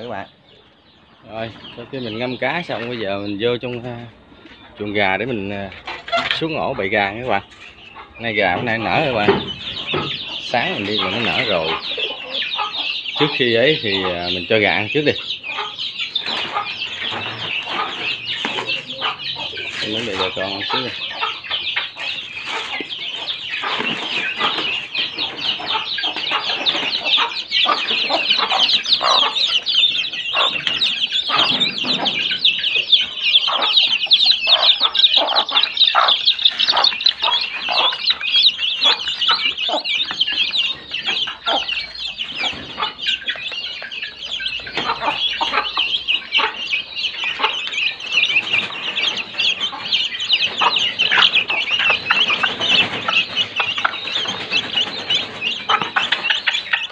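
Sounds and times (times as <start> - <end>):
chicks peeping: 0.0 - 56.9
hens clucking: 0.0 - 56.9.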